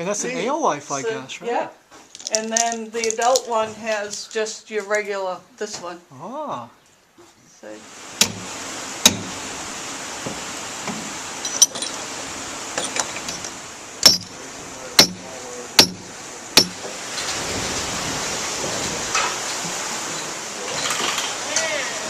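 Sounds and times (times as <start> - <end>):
running water rushing: 0.0 - 4.1, 7.6 - 22.0.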